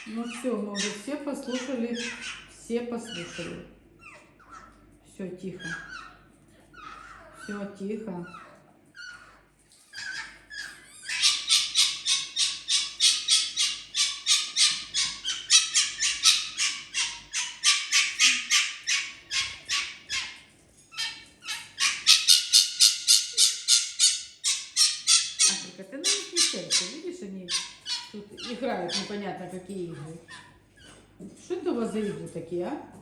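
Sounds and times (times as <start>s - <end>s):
fox high-pitched squeaking calls: 0.0s - 4.8s, 5.6s - 7.6s, 8.3s - 29.2s, 30.2s - 31.1s.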